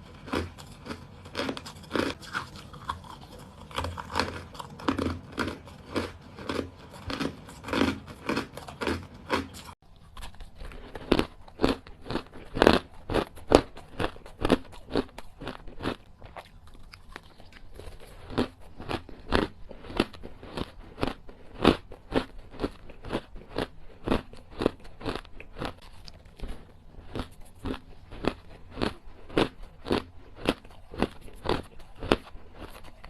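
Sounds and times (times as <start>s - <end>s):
ice crunched between teeth: 0.2s - 33.0s.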